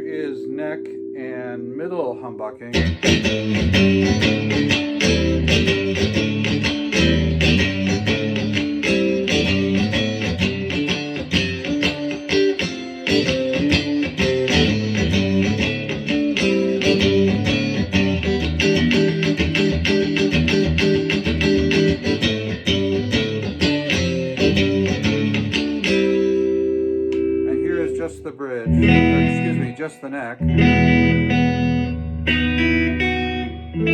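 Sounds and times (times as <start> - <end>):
electric guitar picked notes and chords: 0.0 - 33.9.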